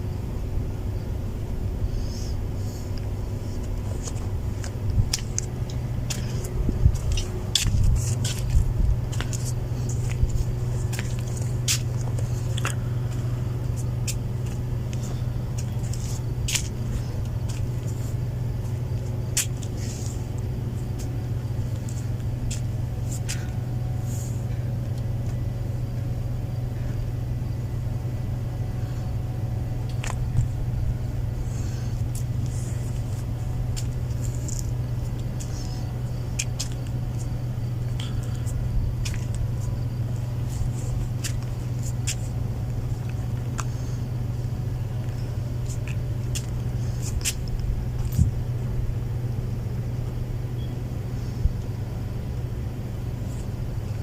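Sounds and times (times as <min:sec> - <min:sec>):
low motor hum: 0:00.0 - 0:54.0.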